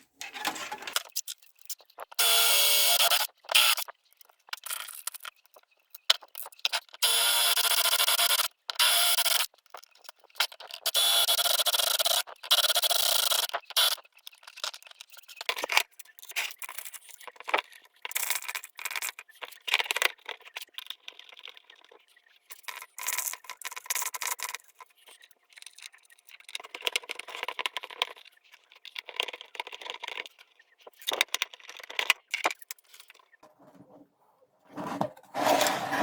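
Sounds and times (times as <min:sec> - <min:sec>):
small hard parts rattling and clicking: 0:00.2 - 0:33.4.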